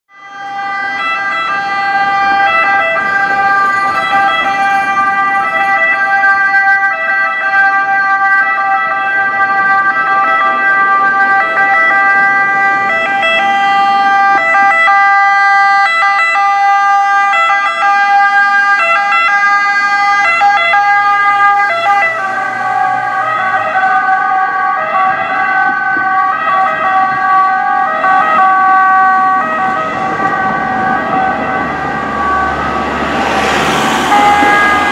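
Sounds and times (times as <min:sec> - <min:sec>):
two-tone ambulance siren: 0:00.1 - 0:34.9.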